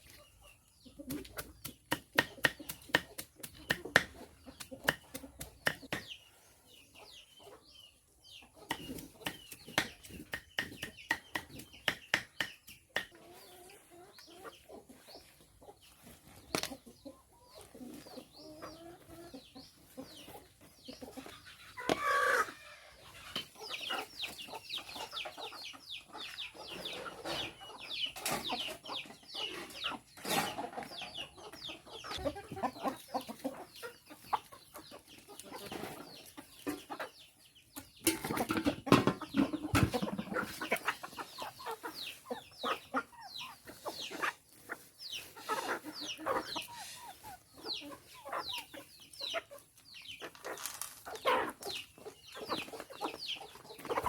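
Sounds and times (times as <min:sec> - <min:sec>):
chickens clucking and calling: 0:00.0 - 0:54.0.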